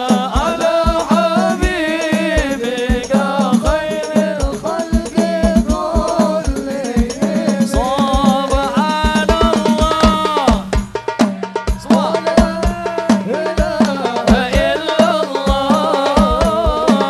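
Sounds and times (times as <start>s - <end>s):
frame drums beating: 0.0s - 17.0s
men singing through microphones: 0.0s - 17.0s.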